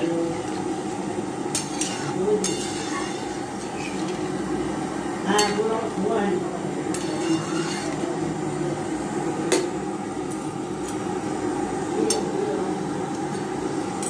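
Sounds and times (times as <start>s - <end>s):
low rushing noise of heating pan: 0.0s - 14.0s.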